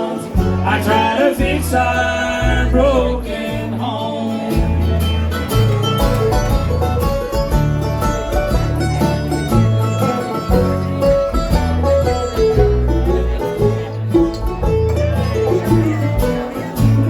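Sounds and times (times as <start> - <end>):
banjo picking: 0.0 - 17.0
guitar picking: 0.0 - 17.0
low bass notes: 0.0 - 17.0.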